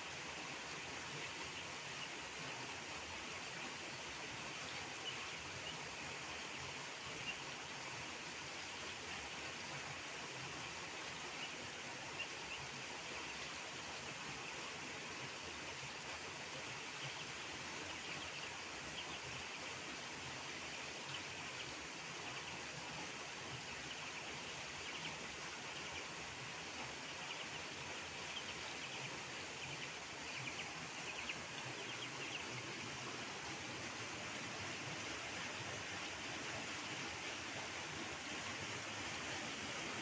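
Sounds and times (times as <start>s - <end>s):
outdoor background hiss: 0.0s - 40.0s.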